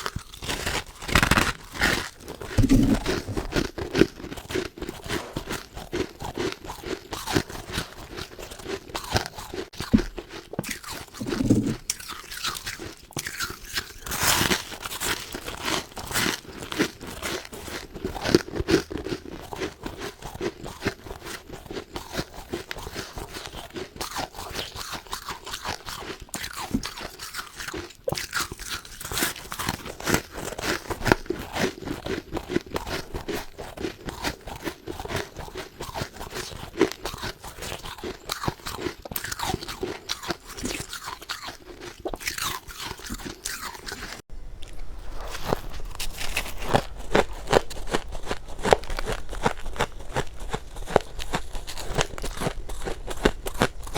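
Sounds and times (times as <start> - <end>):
crunchy chewing of frost: 0.0 - 53.9.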